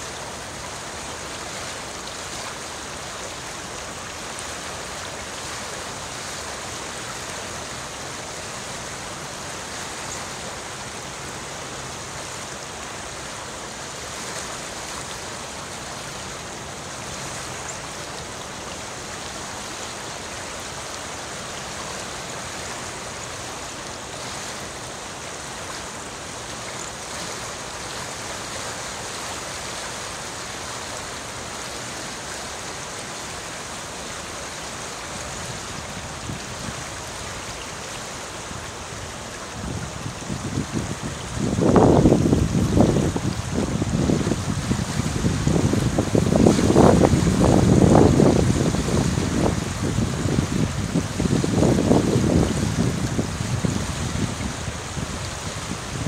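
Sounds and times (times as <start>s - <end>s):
creek flowing over rocks: 0.0s - 56.0s.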